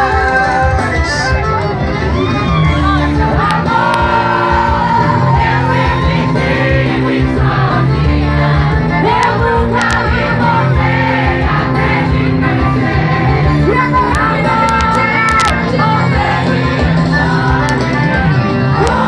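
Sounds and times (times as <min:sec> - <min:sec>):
crowd shouting: 0:00.0 - 0:19.0
live band music with vocals: 0:00.0 - 0:19.0.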